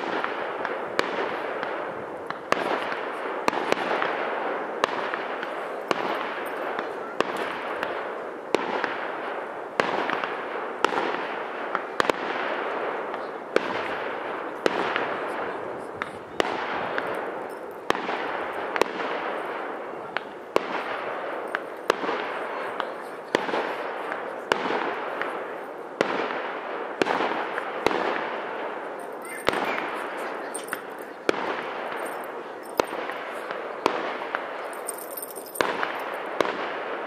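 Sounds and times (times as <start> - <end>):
fireworks bursting with echo: 0.0 - 37.0.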